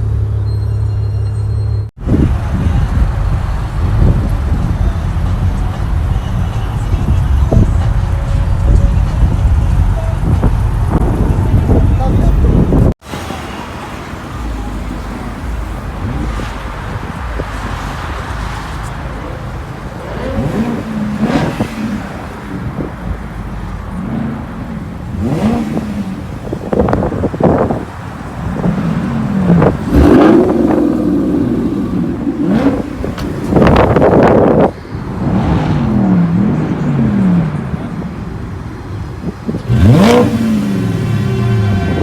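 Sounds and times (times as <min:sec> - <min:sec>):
road noise: 0:00.0 - 0:42.0
car engines revving: 0:02.0 - 0:42.0.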